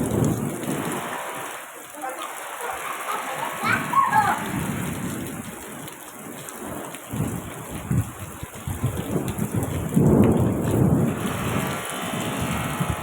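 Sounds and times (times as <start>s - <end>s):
thunder rumbling: 0.0s - 1.6s, 2.3s - 13.0s
steady rain: 0.0s - 13.0s.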